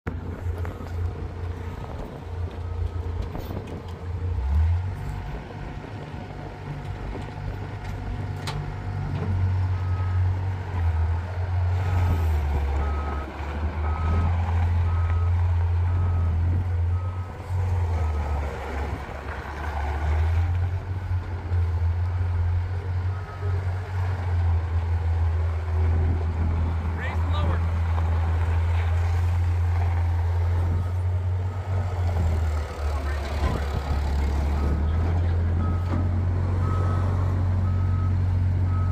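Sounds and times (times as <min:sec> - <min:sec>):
diesel engine droning: 0:00.1 - 0:38.9.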